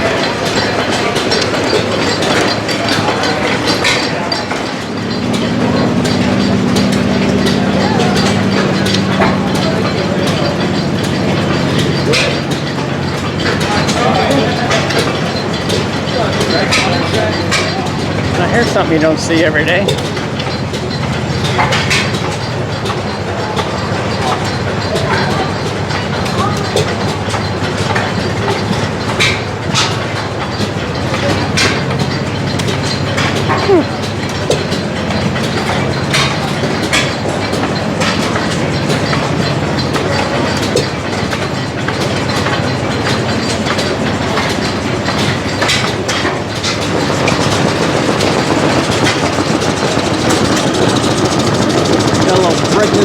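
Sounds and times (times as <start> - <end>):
engines chugging: 0.0 - 53.0
metallic clicks and clacks: 0.0 - 53.0.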